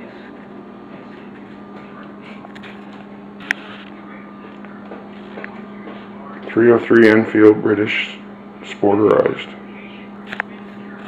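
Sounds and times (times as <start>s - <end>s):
room hum and hiss: 0.0s - 11.0s.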